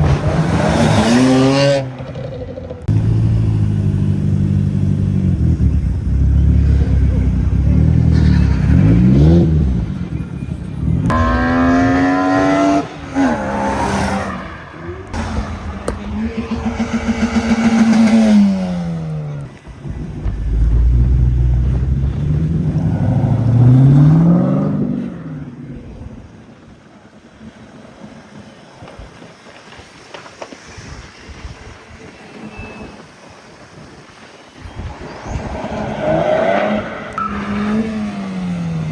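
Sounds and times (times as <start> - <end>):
car engines revving: 0.0 - 29.8, 32.9 - 38.9.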